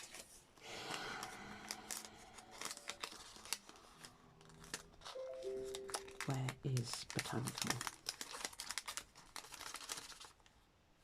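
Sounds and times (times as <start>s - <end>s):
paper rustling: 0.0s - 10.6s.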